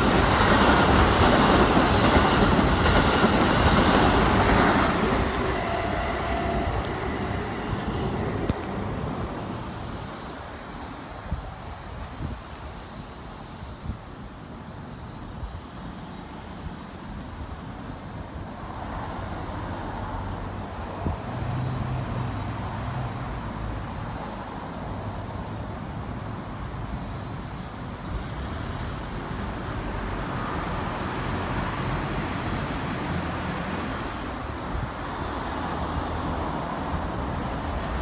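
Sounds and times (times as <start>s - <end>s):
rumble of passing vehicles: 0.0s - 38.0s.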